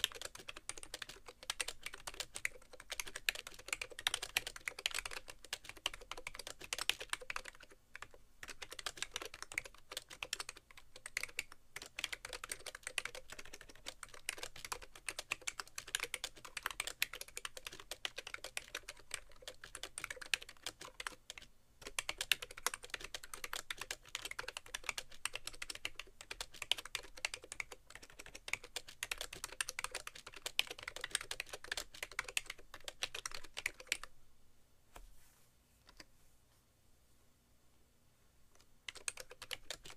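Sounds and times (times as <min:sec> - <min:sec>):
keyboard typing: 0:00.0 - 0:34.1, 0:38.6 - 0:39.9.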